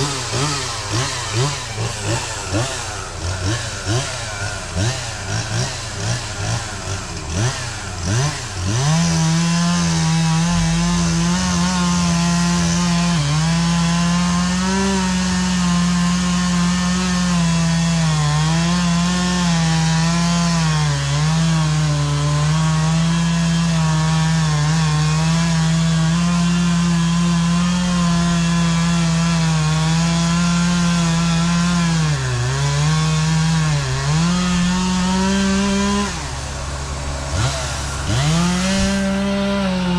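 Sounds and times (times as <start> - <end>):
chainsaw cutting into wood: 0.0 - 39.9.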